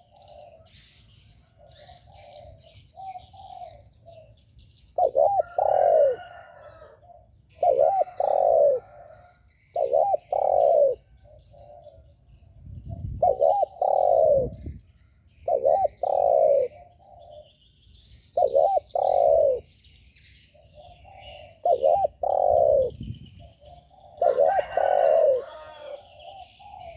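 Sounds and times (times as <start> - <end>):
dove cooing: 0.0 - 4.4, 5.0 - 12.2, 12.9 - 14.7, 15.4 - 17.6, 18.4 - 19.7, 20.5 - 26.9
small birds chirping: 0.0 - 26.9.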